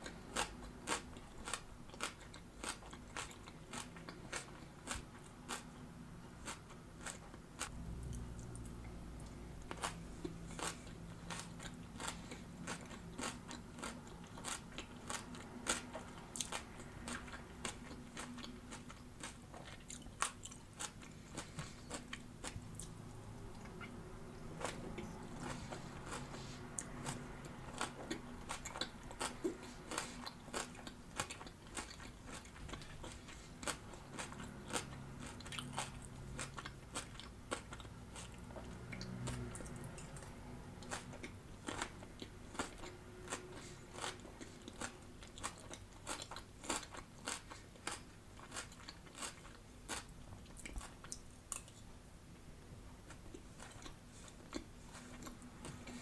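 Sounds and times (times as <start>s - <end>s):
chewing crunchy salad: 0.0s - 51.9s, 53.0s - 56.0s.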